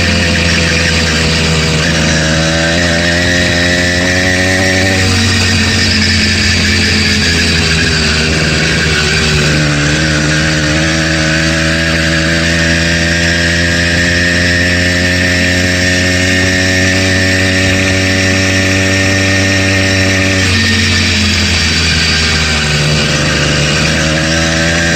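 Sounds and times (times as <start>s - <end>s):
bicycle engine running: 0.0s - 24.9s
engine knock: 0.0s - 24.9s.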